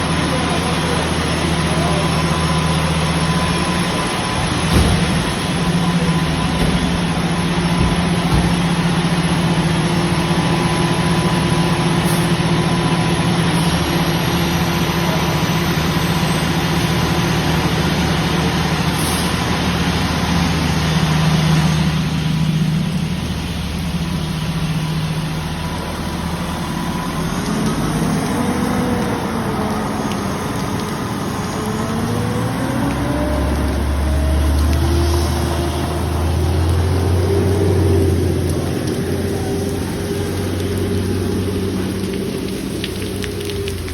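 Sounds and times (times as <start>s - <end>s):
fire engine running: 0.0s - 43.9s.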